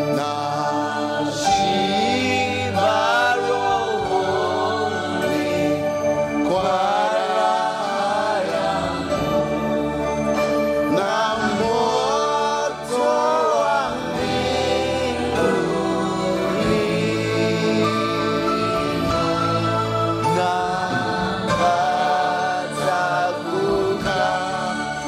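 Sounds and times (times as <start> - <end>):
sustained instrumental backing: 0.0 - 25.0
voices singing gospel: 0.0 - 25.0.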